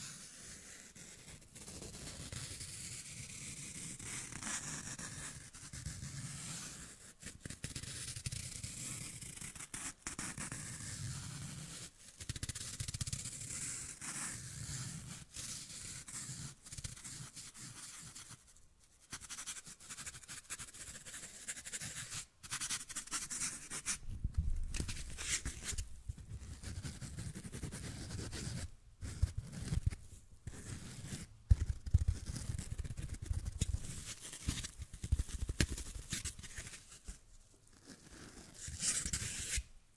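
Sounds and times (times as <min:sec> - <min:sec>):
fingertip scratching foam sponge: 0:00.0 - 0:24.0, 0:24.7 - 0:39.7.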